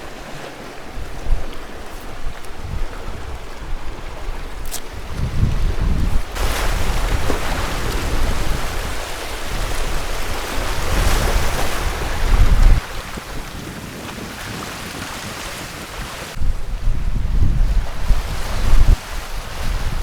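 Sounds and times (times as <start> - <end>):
surf washing on a beach: 0.0 - 20.0
wind buffeting the microphone: 0.0 - 20.0.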